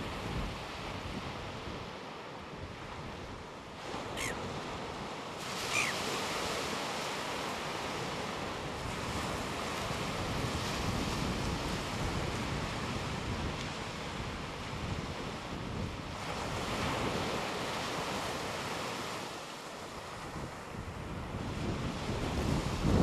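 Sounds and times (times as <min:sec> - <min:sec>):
wind on microphone: 0:00.0 - 0:06.4, 0:08.6 - 0:18.4, 0:20.1 - 0:23.0
surf washing on shore: 0:00.0 - 0:23.0.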